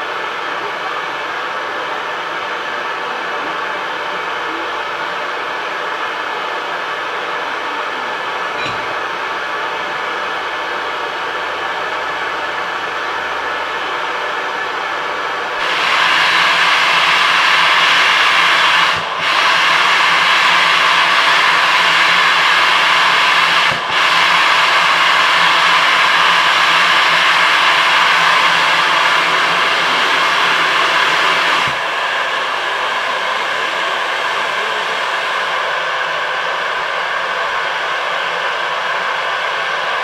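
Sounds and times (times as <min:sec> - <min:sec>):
steam locomotive hissing steam: 0:00.0 - 0:40.0.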